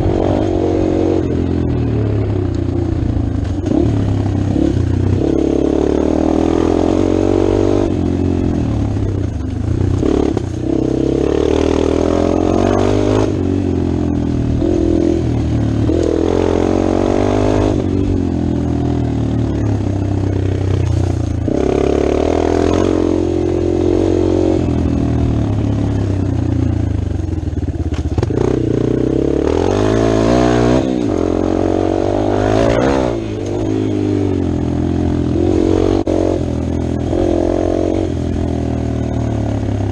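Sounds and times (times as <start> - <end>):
dirt bike engine revving: 0.0 - 2.5, 3.2 - 26.8, 27.9 - 39.9.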